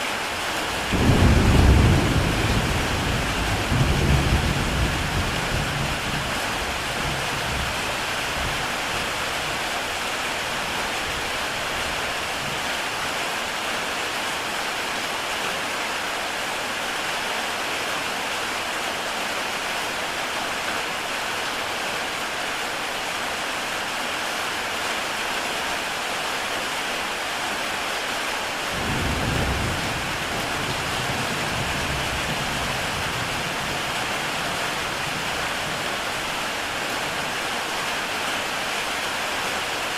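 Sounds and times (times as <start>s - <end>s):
heavy rain on a tile roof: 0.0s - 39.9s.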